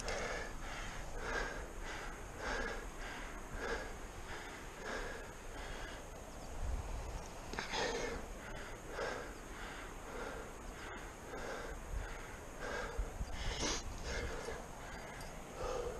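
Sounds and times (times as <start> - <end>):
person breathing hard: 0.0 - 6.4, 7.6 - 15.9.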